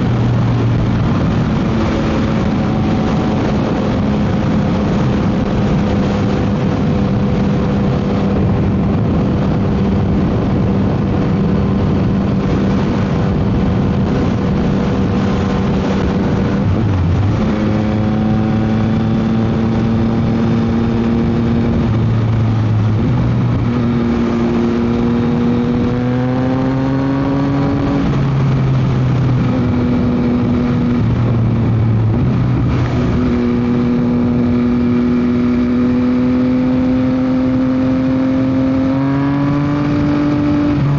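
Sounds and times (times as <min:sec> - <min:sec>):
heavy wind noise: 0:00.0 - 0:40.9
motorcycle engine revving: 0:00.0 - 0:40.9.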